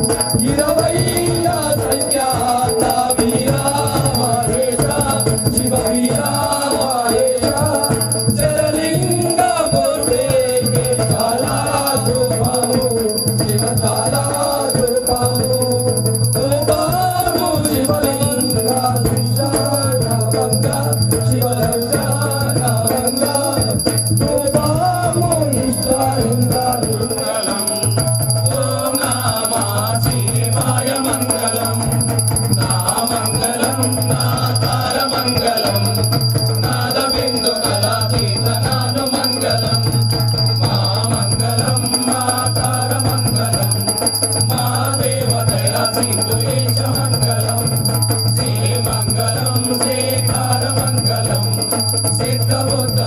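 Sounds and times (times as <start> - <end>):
wavering devotional melody: 0.0 - 53.0.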